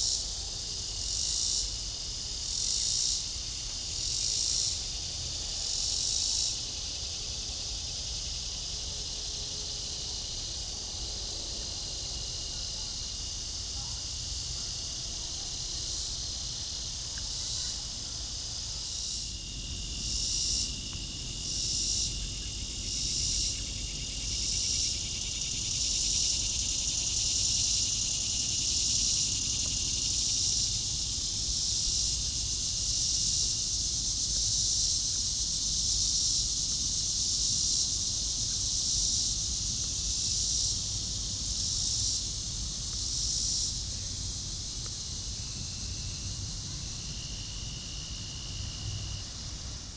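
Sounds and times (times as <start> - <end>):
high insect trill: 0.0 - 49.9
insects buzzing: 0.0 - 49.9.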